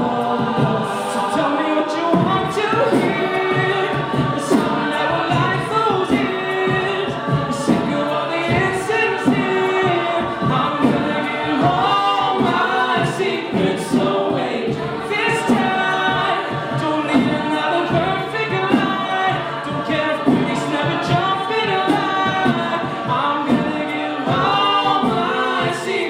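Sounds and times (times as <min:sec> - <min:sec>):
a cappella group singing: 0:00.0 - 0:26.0
steady beat: 0:00.0 - 0:26.0.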